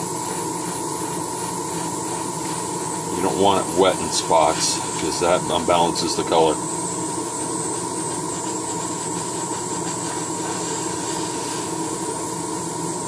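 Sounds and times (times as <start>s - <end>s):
airbrush spraying hiss: 0.0s - 5.1s, 6.3s - 12.3s
constant whine: 0.0s - 13.0s.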